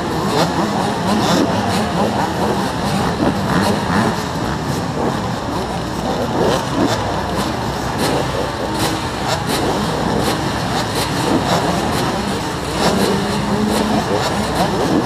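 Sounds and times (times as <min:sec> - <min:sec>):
dirt bike engines idling and revving: 0:00.0 - 0:15.0.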